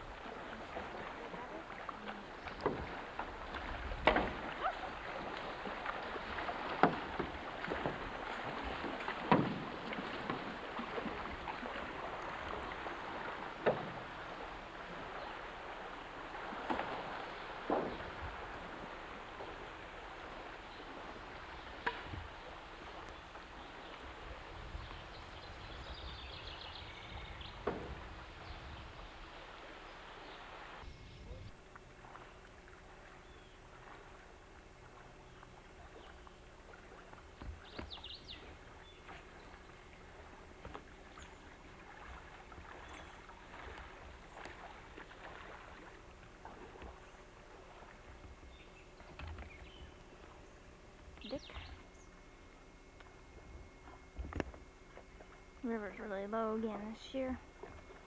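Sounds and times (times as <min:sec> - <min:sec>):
paddle splashing and knocking: 0:00.0 - 0:30.8, 0:33.7 - 0:51.9
flowing river water: 0:00.0 - 0:58.0.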